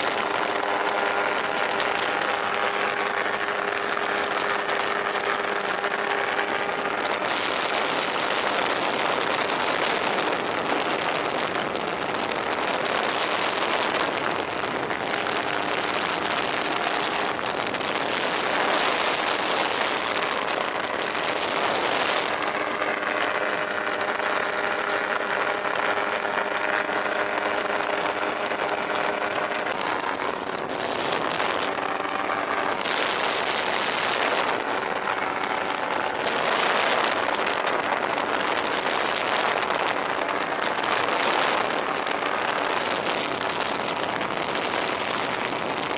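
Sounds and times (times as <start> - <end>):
aircraft engine and propeller droning: 0.0 - 43.6
wind gusts on microphone: 0.0 - 45.9.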